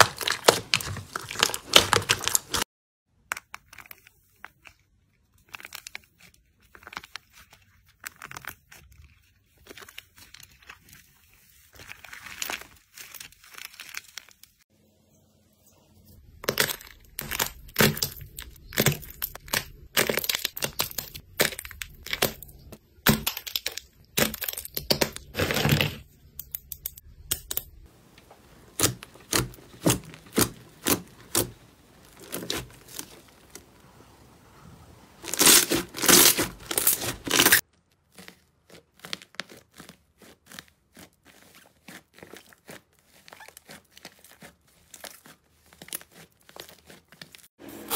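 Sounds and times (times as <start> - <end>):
crunchy slime crackling: 0.0 - 2.7, 3.6 - 14.7, 16.2 - 47.6.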